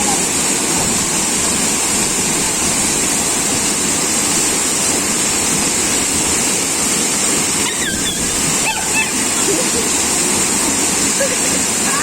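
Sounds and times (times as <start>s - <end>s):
waterfall crashing into pool: 0.0s - 12.0s.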